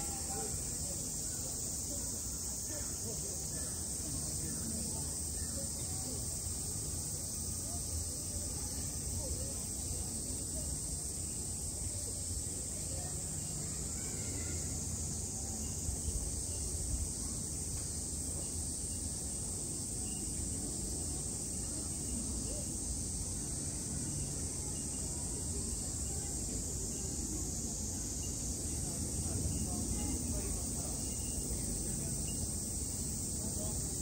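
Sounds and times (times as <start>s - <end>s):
cicadas droning: 0.0s - 34.0s.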